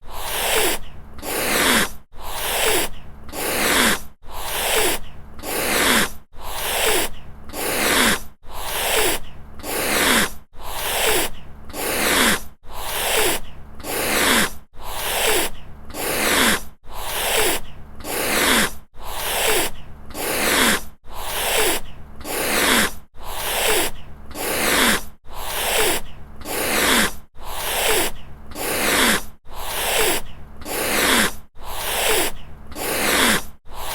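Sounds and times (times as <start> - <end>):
cat hissing: 0.0 - 33.9.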